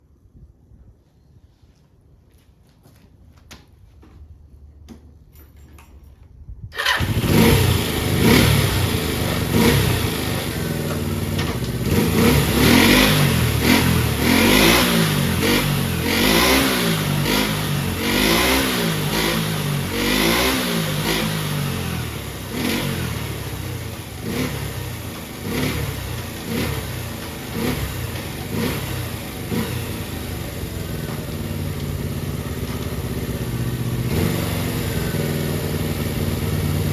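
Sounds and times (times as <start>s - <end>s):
motorcycle engine revving: 6.8s - 36.9s.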